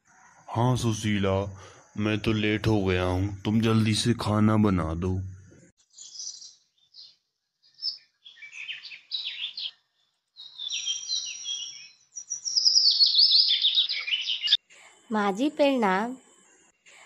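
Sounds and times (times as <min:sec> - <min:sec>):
birds chirping: 0:00.0 - 0:15.1.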